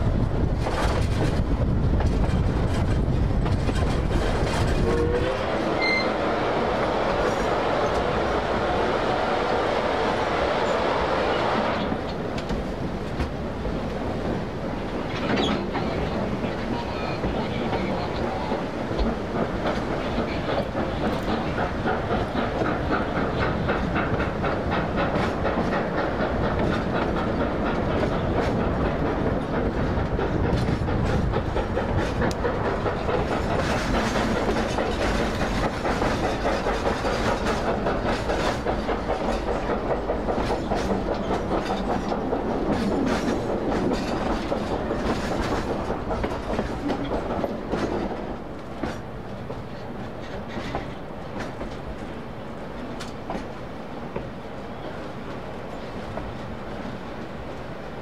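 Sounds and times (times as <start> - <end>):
rail joint clicks: 0.0 - 58.0
train wheels rumbling on rail: 0.0 - 58.0.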